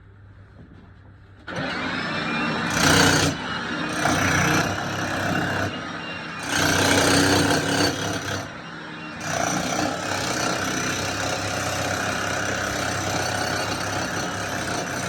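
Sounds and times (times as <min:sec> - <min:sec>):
hammer drill running: 0:01.5 - 0:15.0.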